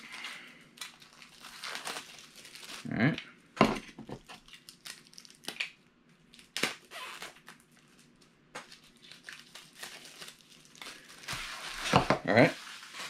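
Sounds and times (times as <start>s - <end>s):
plastic wrapping crinkling: 0.0s - 3.2s, 4.0s - 13.0s.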